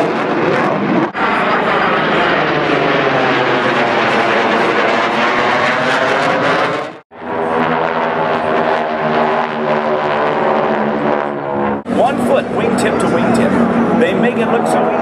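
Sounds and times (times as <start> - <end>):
drone of propeller planes formation: 0.0 - 15.0
jet fighter flying overhead: 0.0 - 15.0
propeller plane flying overhead: 0.0 - 15.0.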